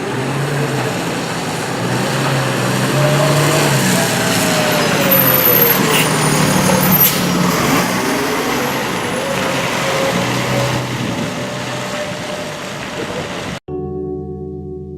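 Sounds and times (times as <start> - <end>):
diesel engine humming: 0.0 - 13.6
traffic noise: 0.0 - 13.6.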